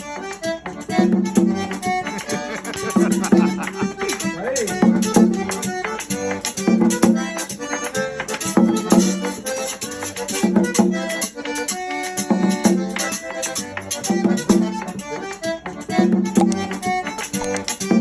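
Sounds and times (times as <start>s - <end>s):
accordion music: 0.0s - 18.0s
percussion beat: 0.2s - 18.0s.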